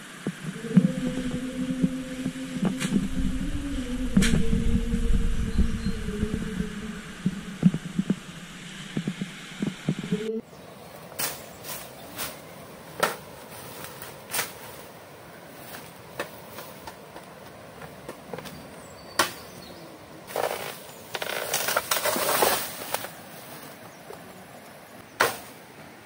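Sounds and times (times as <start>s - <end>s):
rustling undergrowth: 0.0s - 26.0s.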